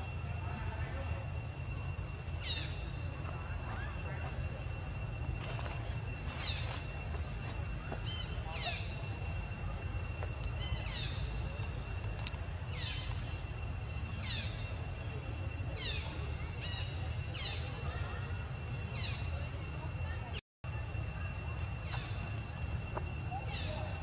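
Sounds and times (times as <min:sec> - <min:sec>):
high-pitched whine: 0:00.0 - 0:24.0
low outdoor rumble: 0:00.0 - 0:24.0.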